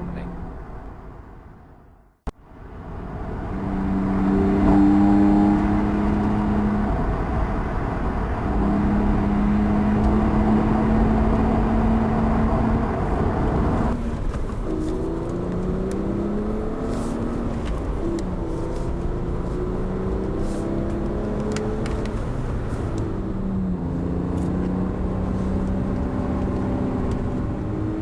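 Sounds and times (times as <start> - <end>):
car engine: 0.0 - 28.0
road noise: 0.0 - 28.0.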